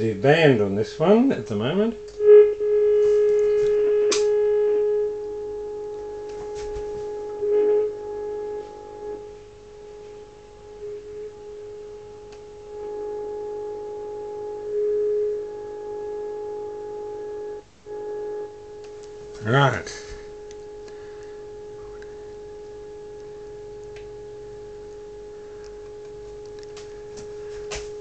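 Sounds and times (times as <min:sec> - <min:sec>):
radio receiver beat tone: 0:01.0 - 0:28.0.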